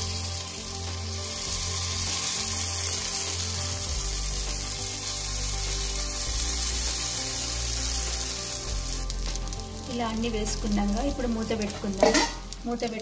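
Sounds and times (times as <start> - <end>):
background music: 0.0 - 13.0
batter sizzling in hot oil: 0.0 - 13.0.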